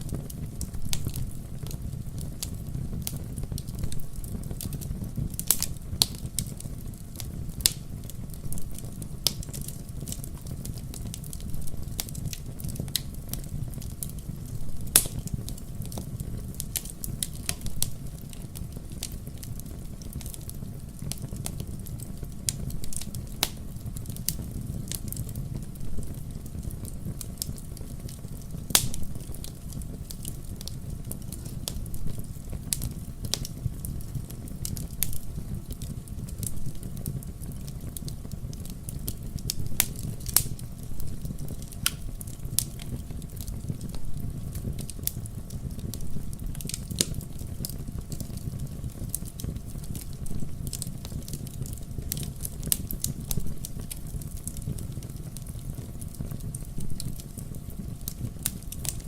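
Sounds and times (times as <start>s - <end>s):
fire crackling in fireplace: 0.0s - 59.0s.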